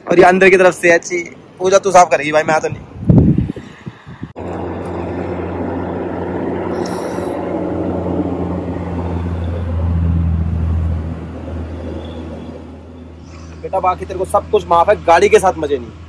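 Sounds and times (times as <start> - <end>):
vehicle engine humming: 3.1 - 16.0.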